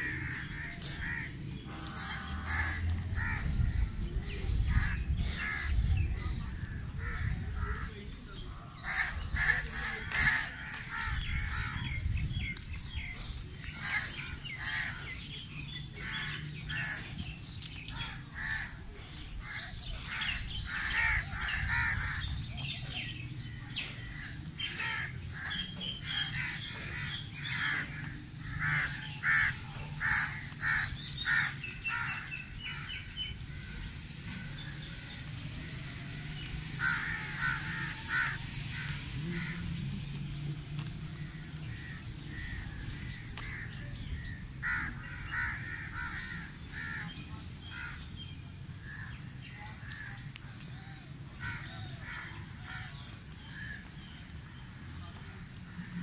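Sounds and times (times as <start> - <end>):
birds calling: 0.0 - 56.0.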